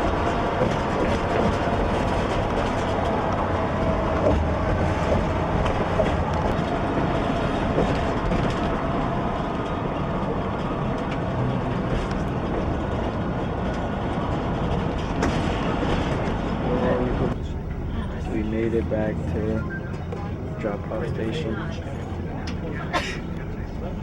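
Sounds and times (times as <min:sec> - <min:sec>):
vehicle rumble inside cabin: 0:00.0 - 0:24.0.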